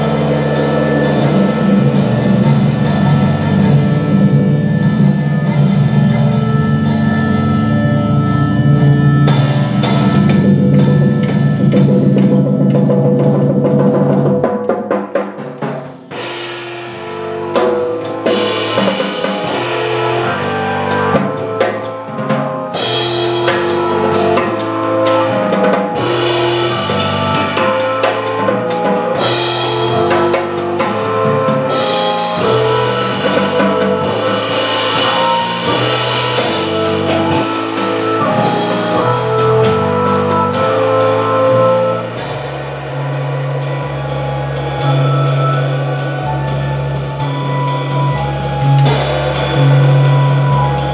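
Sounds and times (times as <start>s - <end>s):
drum hits: 0.0s - 50.9s
jazz organ trio: 0.0s - 50.9s.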